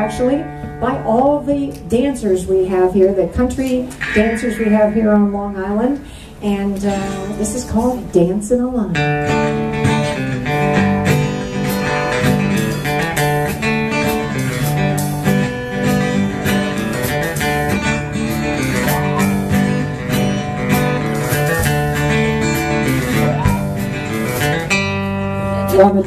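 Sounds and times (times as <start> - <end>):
country band instrumental: 0.0 - 8.3, 8.9 - 26.0.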